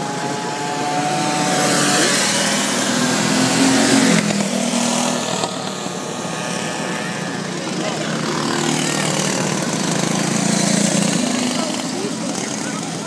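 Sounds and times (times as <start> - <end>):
go-kart engines racing: 0.0 - 13.0.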